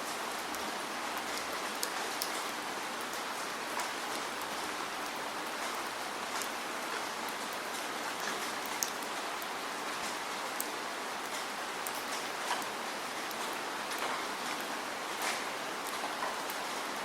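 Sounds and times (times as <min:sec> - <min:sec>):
raindrops striking a surface: 0:00.0 - 0:17.0
steady rain hiss: 0:00.0 - 0:17.0.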